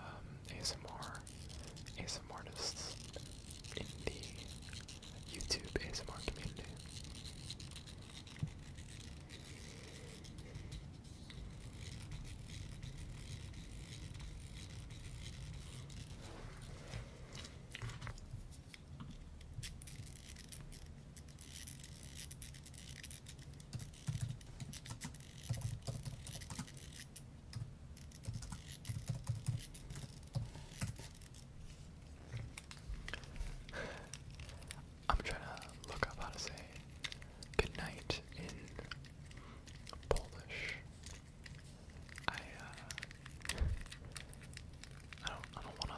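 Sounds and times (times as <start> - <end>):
small clicks and scratches: 0.5 - 45.9.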